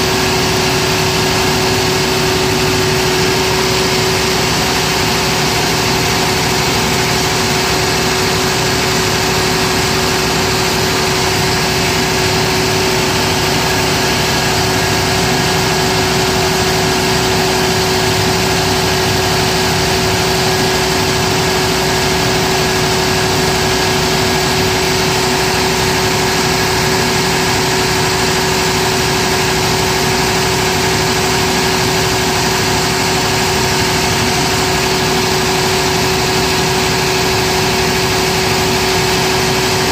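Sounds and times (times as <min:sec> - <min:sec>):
diesel generator engine drone: 0:00.0 - 0:39.9.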